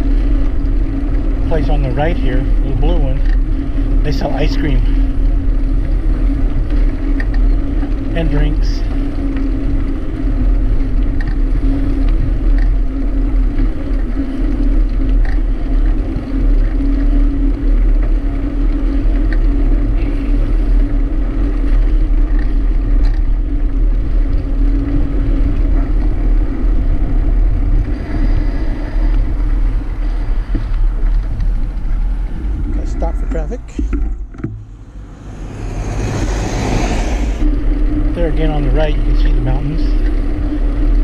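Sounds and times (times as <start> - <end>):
bicycle tyres humming on asphalt: 0.0 - 41.0
wind rushing over microphone: 0.0 - 41.0.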